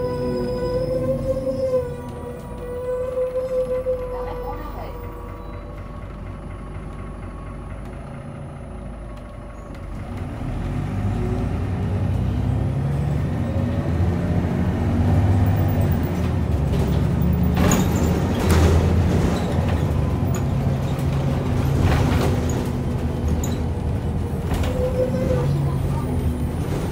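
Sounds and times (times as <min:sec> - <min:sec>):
bus engine: 0:00.0 - 0:26.9.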